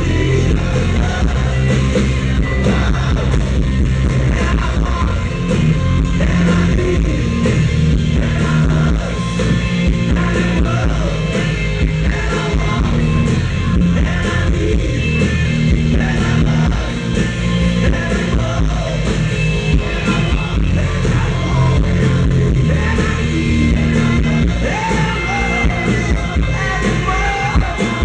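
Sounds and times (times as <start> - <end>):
lead singer singing: 0.0 - 28.0
live rock band: 0.0 - 28.0.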